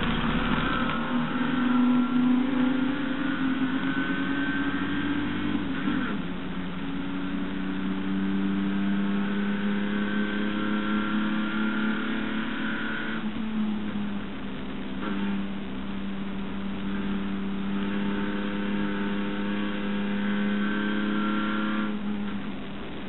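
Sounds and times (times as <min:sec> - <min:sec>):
race car engine running hard: 0:00.0 - 0:23.0.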